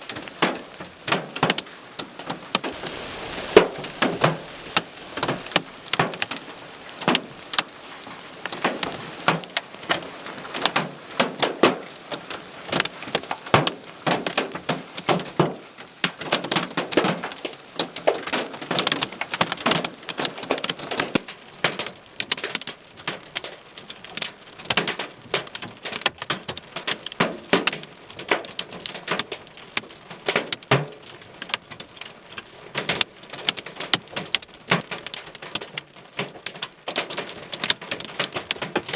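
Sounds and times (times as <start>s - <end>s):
hailstones striking hard surface: 0.0s - 38.9s.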